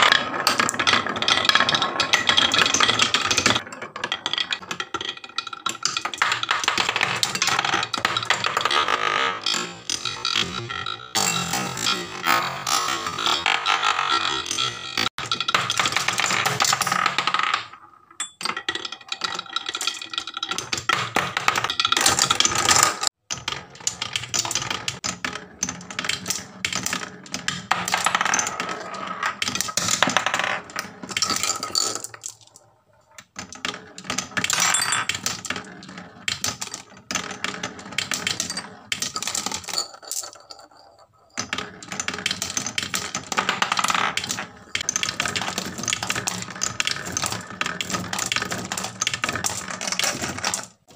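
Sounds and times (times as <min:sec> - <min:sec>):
marbles rattling down wooden tracks: 0:00.0 - 0:50.9.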